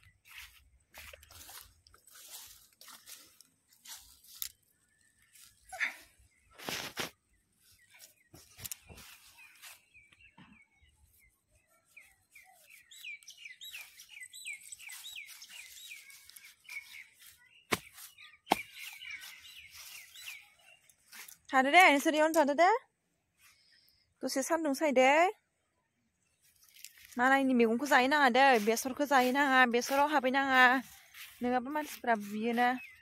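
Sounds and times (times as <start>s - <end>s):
footsteps crackling on dry straw: 0.0s - 5.7s, 6.4s - 10.3s, 11.0s - 21.6s, 26.4s - 33.0s.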